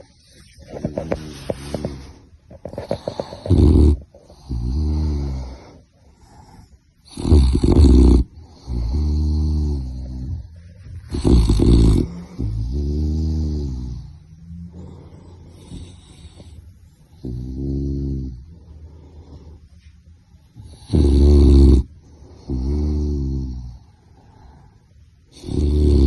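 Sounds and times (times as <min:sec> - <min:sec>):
puppy snoring: 0:00.0 - 0:19.7, 0:20.5 - 0:24.6, 0:25.3 - 0:26.0.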